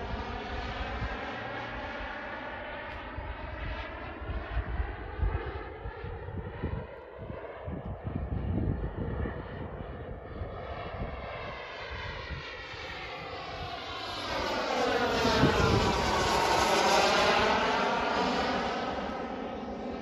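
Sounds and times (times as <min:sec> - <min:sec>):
model jet turbine flying past: 0:00.0 - 0:20.0.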